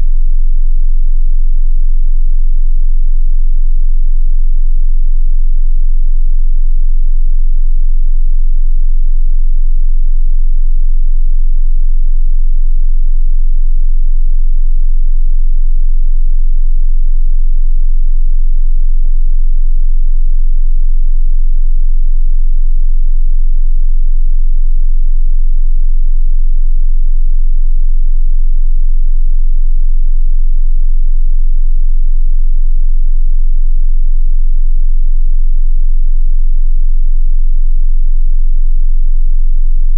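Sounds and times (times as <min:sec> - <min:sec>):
deep sine-wave test tone: 0:00.0 - 0:39.9.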